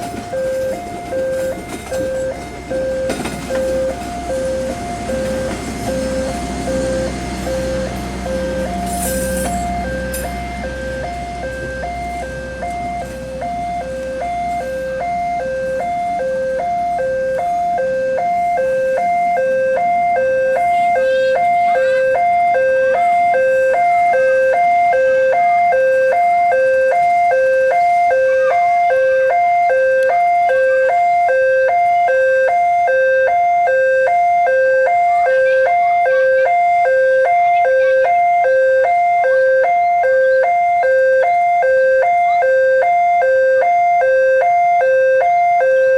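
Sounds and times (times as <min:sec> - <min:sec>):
level crossing two-tone alarm: 0:00.0 - 0:45.9
low vehicle rumble: 0:00.0 - 0:45.9.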